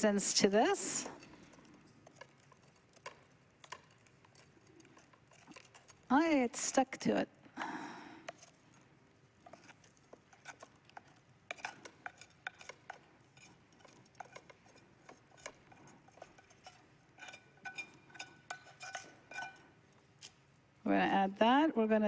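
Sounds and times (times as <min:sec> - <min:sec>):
utensil scraping metal pot: 0:00.0 - 0:07.1, 0:08.2 - 0:20.5.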